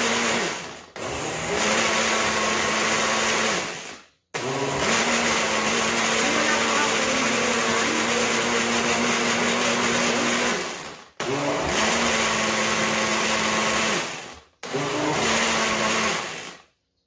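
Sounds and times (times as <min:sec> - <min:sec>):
blender motor whining: 0:00.0 - 0:16.7.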